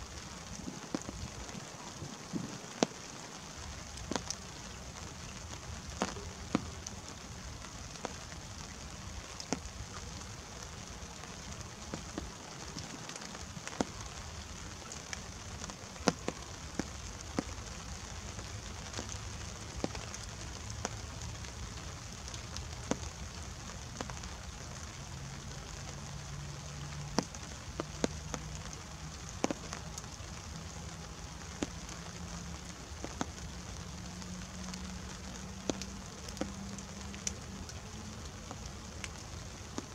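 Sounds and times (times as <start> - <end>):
light rain hiss: 0.0 - 39.9
raindrops tapping: 0.0 - 39.9.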